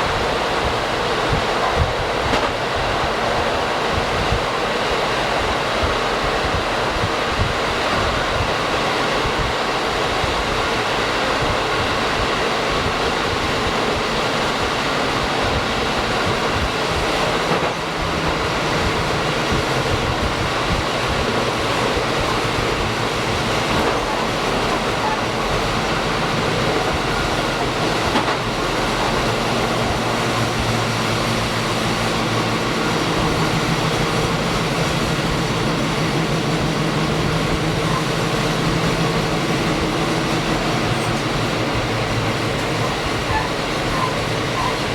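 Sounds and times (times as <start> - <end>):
diesel engine drone: 0.0 - 44.9
train wheels rumbling on rail: 0.0 - 44.9.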